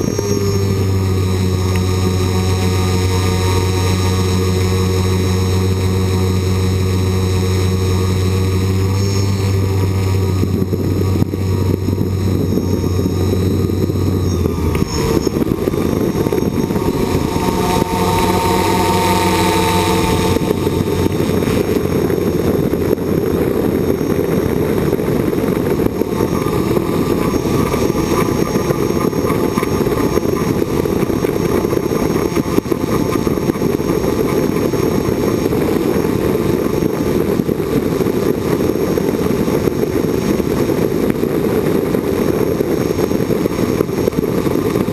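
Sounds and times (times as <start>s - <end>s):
drone propellers buzzing: 0.0s - 44.9s.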